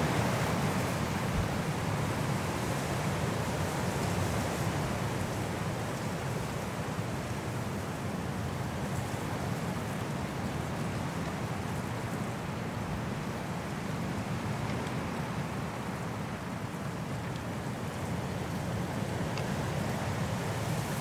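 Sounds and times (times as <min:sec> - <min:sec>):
strong wind through trees: 0:00.0 - 0:21.0.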